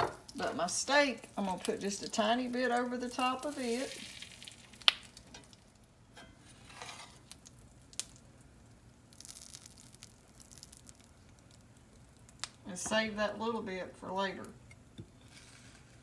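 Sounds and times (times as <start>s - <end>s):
butter and oil sizzling: 0.0s - 16.0s.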